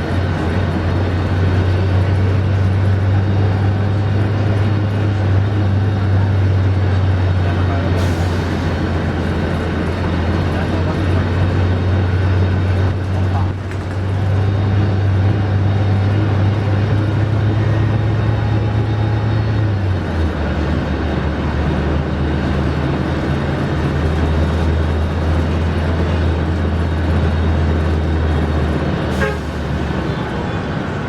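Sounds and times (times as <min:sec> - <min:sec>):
bus engine running: 0:00.0 - 0:31.0.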